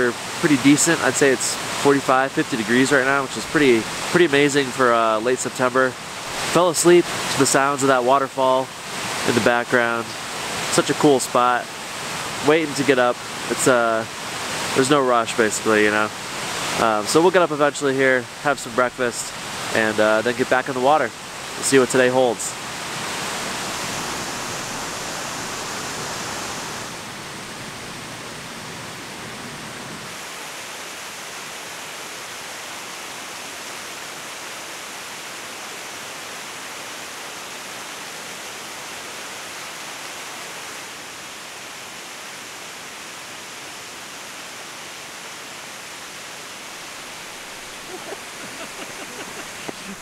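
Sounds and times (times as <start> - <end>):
waterfall roaring: 0.0 - 50.0.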